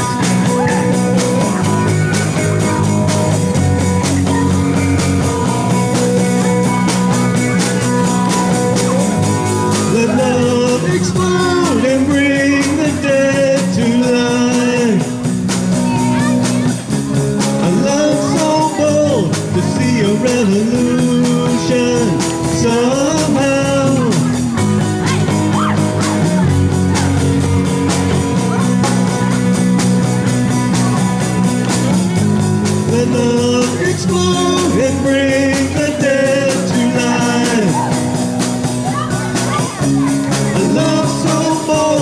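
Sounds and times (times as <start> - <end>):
live rock band playing: 0.0 - 42.0.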